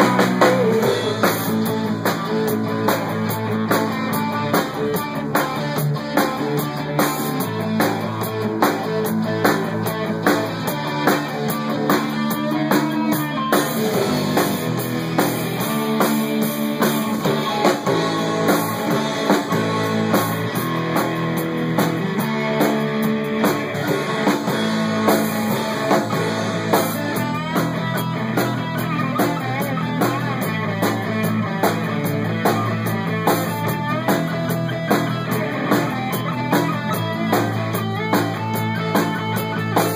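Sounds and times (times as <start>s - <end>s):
bass guitar: 0.0s - 39.9s
drum kit beat: 0.0s - 39.9s
electric guitars: 0.0s - 39.9s.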